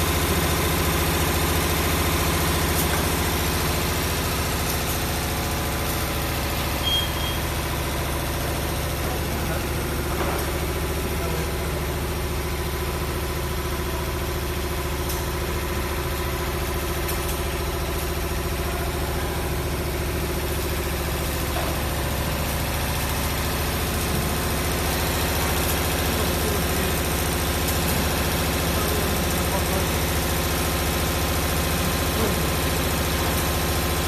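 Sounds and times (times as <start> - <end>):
winding machine running: 0.0 - 34.0.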